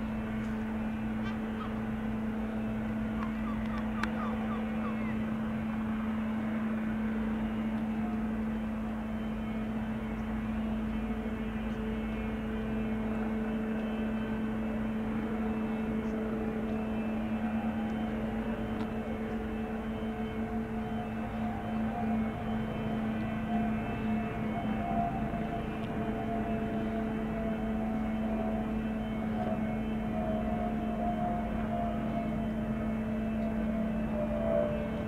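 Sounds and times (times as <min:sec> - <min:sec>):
helicopter hovering: 0:00.0 - 0:35.0.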